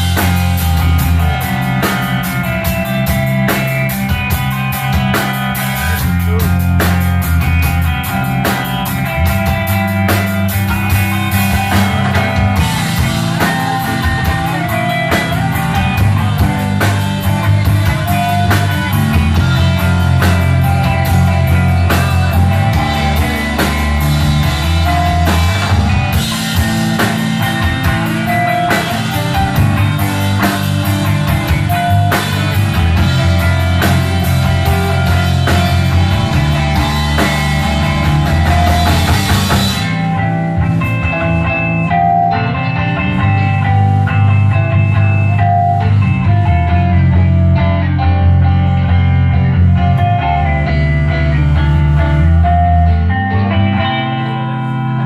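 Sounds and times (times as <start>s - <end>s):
bass guitar: 0.0s - 55.0s
drum kit beat: 0.0s - 55.0s
electric guitars: 0.0s - 55.0s.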